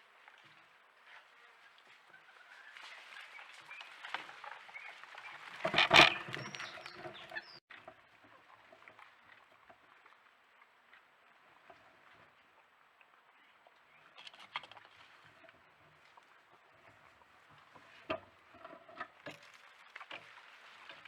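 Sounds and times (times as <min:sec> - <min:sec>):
faint clicks and rustling: 0:02.8 - 0:21.0.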